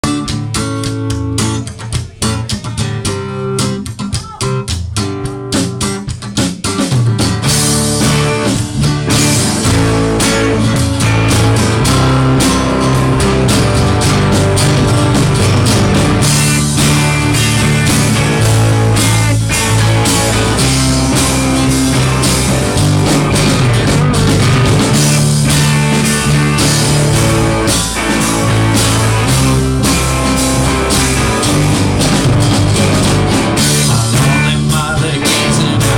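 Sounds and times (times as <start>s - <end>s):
bass guitar: 0.0s - 35.9s
drum kit: 0.0s - 35.9s
electric guitar: 0.0s - 35.9s.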